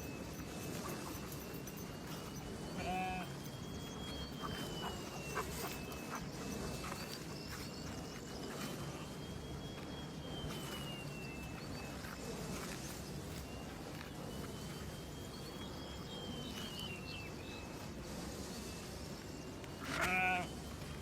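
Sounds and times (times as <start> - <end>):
high whistle-like tone: 0.0 - 21.0.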